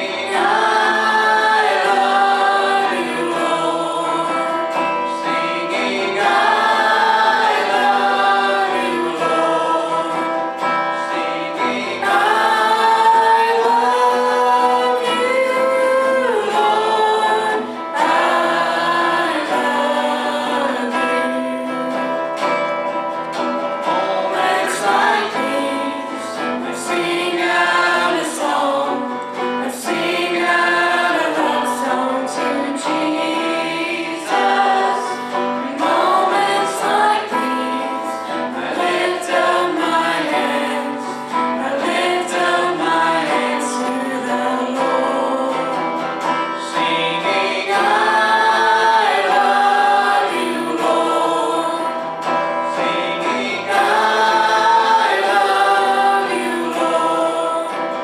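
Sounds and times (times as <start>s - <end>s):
choir singing gospel in harmony: 0.0s - 58.0s.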